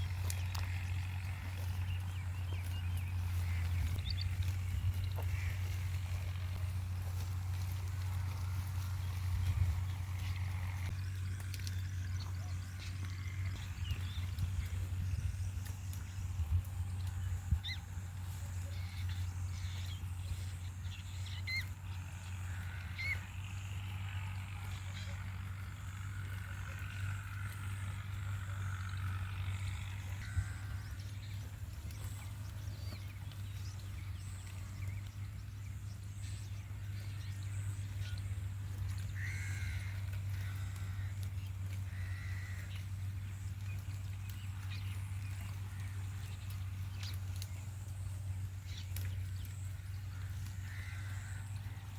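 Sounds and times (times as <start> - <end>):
bird calls: 0.0 - 51.9
low hum: 0.0 - 51.9.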